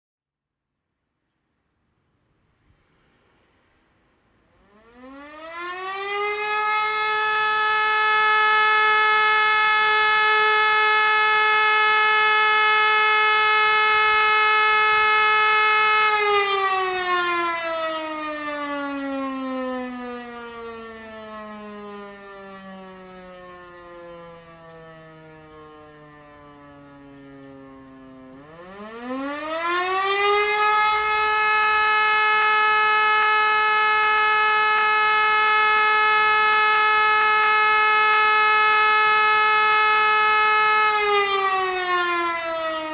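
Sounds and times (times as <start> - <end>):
electromechanical siren wailing: 4.5 - 42.9.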